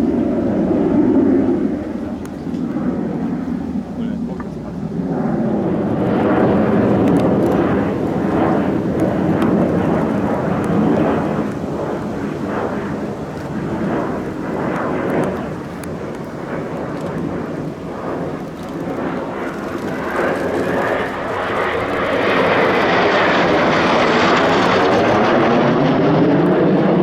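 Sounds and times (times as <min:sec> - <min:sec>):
airplane flying past: 0:00.0 - 0:27.0.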